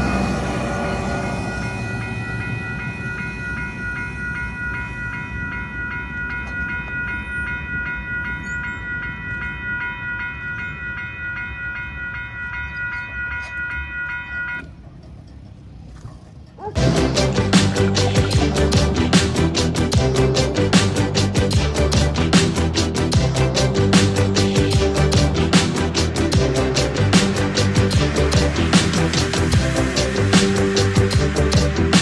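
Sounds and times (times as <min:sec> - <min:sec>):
crossing bells ringing: 0:00.0 - 0:15.9, 0:16.8 - 0:32.0
train rumbling on tracks: 0:00.0 - 0:32.0.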